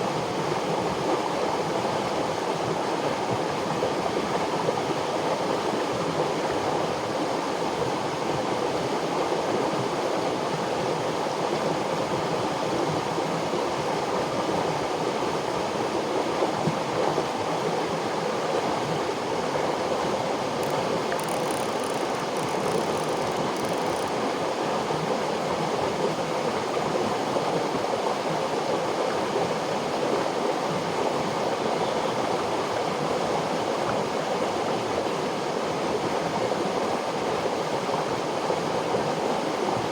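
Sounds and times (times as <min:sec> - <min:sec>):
river water rushing: 0:00.2 - 0:39.9.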